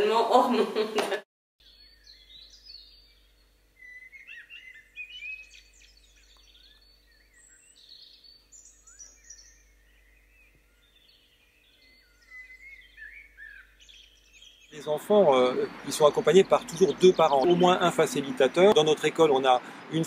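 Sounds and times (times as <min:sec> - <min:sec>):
birds chirping and singing: 0:01.6 - 0:20.0.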